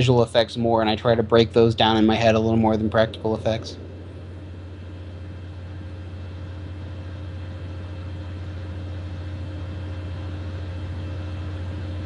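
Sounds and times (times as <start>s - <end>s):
faint steady tones: 0.0s - 12.0s
low hum: 0.0s - 12.0s.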